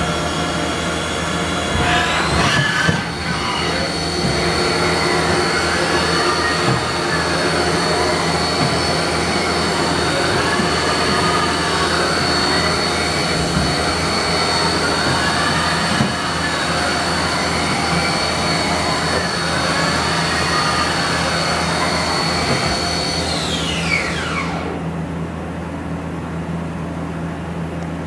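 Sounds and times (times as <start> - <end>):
low machine hum: 0.0 - 28.0
spindle drive whine: 0.0 - 28.0
spindle spinning down: 0.3 - 24.8.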